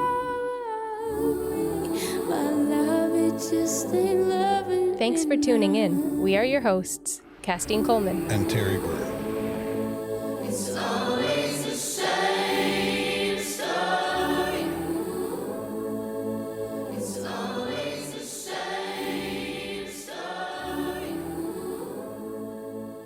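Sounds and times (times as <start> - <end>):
slow song with sung harmonies: 0.0 - 23.0.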